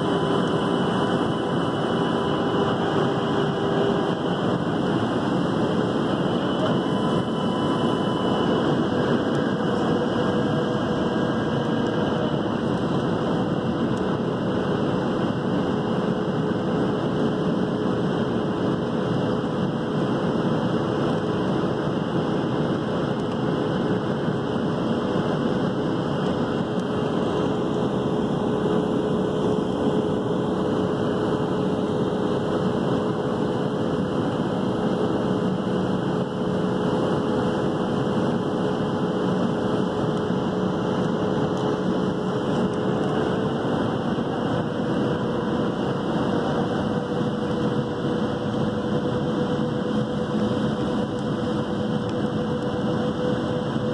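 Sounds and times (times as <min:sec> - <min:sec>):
airflow rushing in aircraft cabin: 0:00.0 - 0:53.9
jet engines humming: 0:00.0 - 0:53.9.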